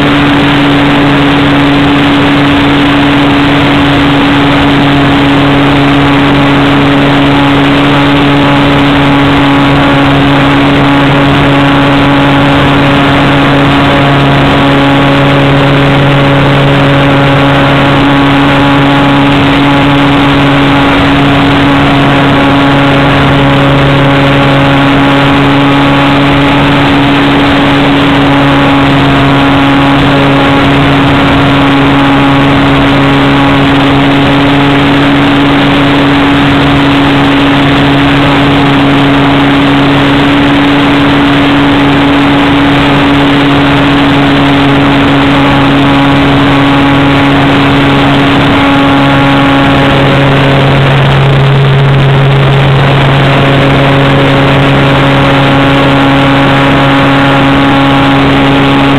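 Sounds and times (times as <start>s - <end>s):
electric motor and propeller drone: 0.0s - 58.9s.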